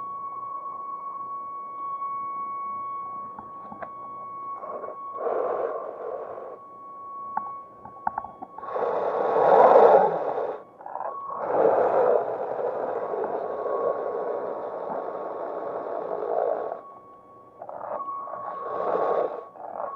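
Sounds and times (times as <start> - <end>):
thin steady whine: 0.0 - 19.9.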